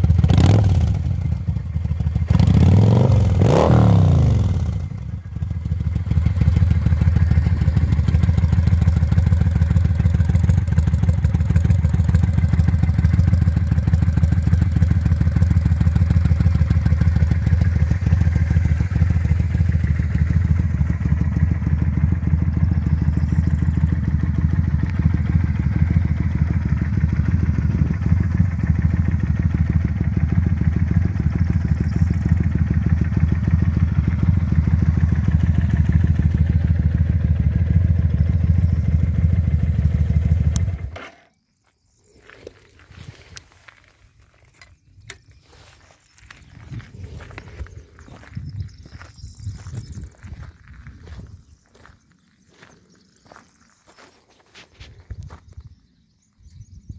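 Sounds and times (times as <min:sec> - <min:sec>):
motorcycle engine idling: 0:00.0 - 0:54.1.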